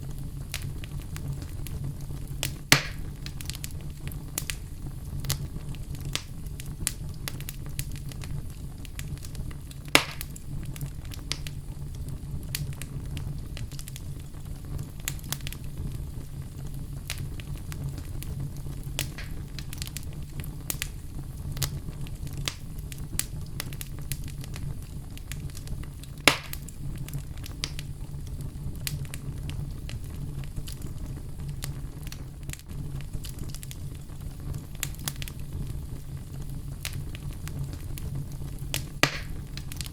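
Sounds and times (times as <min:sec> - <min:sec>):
fire crackling: 0:00.0 - 0:39.9
fire rumbling: 0:00.0 - 0:39.9
loud fire pops: 0:00.0 - 0:39.9.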